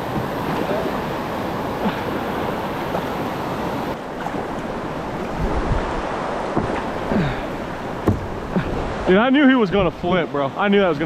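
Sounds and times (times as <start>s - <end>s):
wind buffeting microphone: 0.0s - 10.2s
rushing river rapids: 0.0s - 11.0s.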